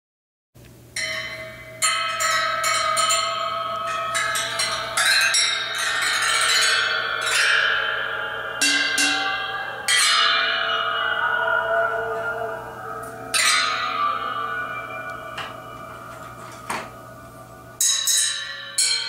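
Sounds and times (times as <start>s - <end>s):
metal percussion ringing: 1.0s - 19.0s
low sustained note: 1.2s - 18.9s.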